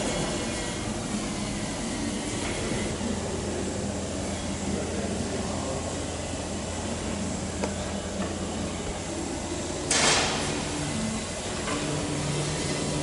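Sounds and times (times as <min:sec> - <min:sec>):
low hum of workshop: 0:00.0 - 0:13.0.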